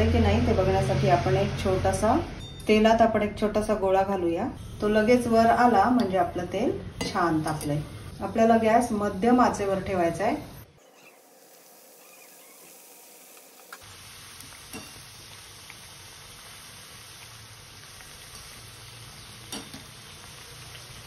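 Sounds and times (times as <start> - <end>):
pastries sizzling in hot oil: 3.5 - 21.0.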